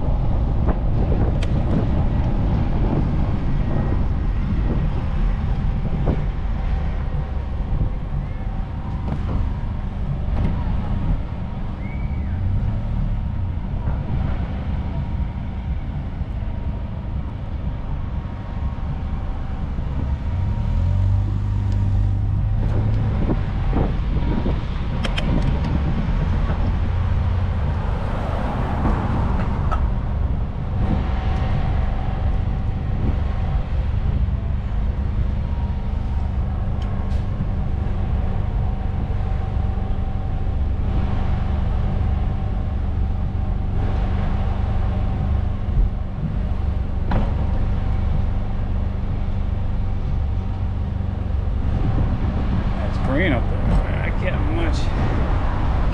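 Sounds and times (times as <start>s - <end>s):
car and van engines rumbling: 0.0s - 55.9s.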